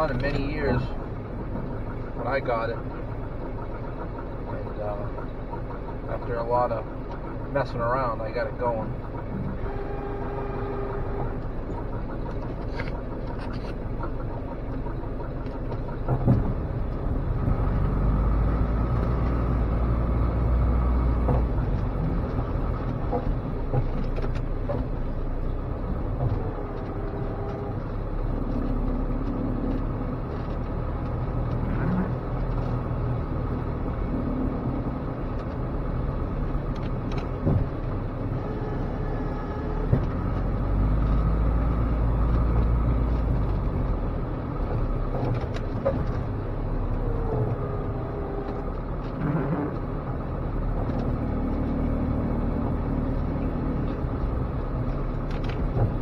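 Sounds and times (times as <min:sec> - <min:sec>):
engine running from inside cab: 0:00.0 - 0:56.0.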